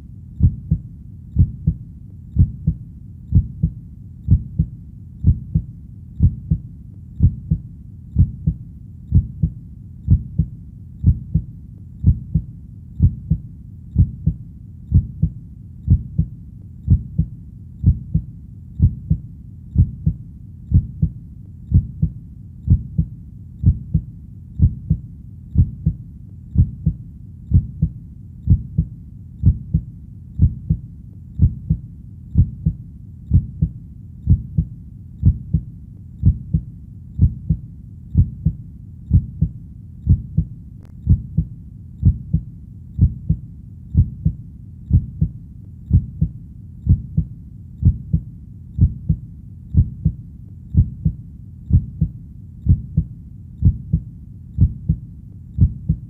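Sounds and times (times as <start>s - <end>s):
faint low hum: 0.0s - 56.0s
heartbeat double thuds: 0.4s - 0.8s, 1.4s - 1.8s, 2.4s - 7.6s, 8.2s - 16.3s, 16.9s - 19.2s, 19.8s - 25.0s, 25.6s - 26.0s, 26.6s - 30.8s, 31.4s - 31.8s, 32.4s - 37.6s, 38.2s - 55.0s, 55.6s - 56.0s.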